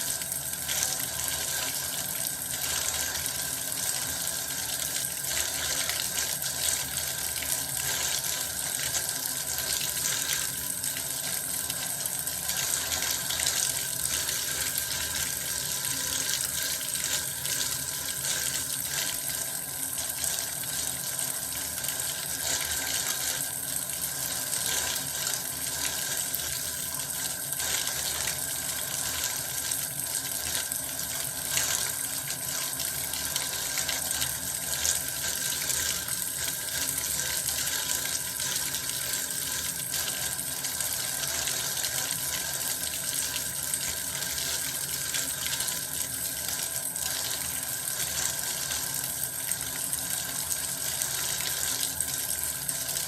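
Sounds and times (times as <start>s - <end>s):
bath water running: 0.0s - 53.0s.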